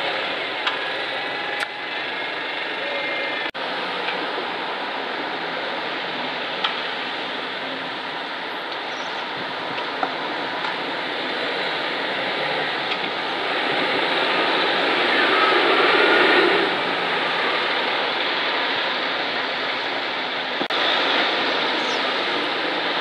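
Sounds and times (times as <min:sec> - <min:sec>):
bus engine approaching: 0:00.0 - 0:23.0
road traffic passing: 0:00.0 - 0:23.0.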